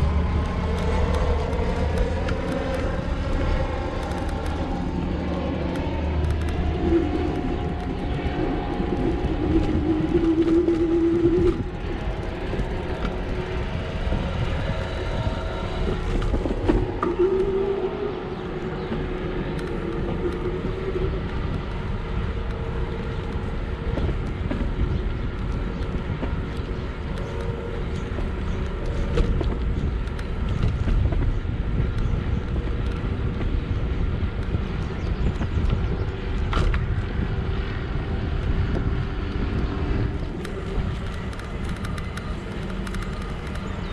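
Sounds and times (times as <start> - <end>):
humming tone: 0.0 - 43.9
road rumble: 0.0 - 43.9
wind: 0.0 - 43.9.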